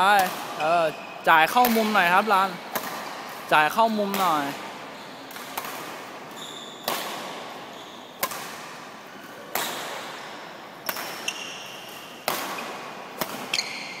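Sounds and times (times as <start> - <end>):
shoes squeaking on court floor: 0.0 - 8.4, 9.0 - 14.0
rackets hitting shuttlecock: 0.1 - 0.8, 1.5 - 14.0.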